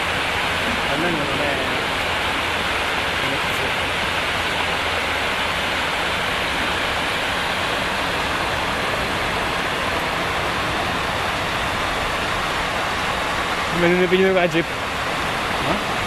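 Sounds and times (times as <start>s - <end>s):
muddy water rushing down a road: 0.0s - 16.0s.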